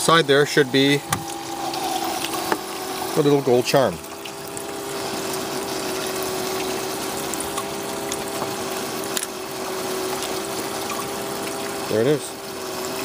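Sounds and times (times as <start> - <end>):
electric motor and pump hum: 0.0 - 13.0
water spraying and trickling: 0.0 - 13.0.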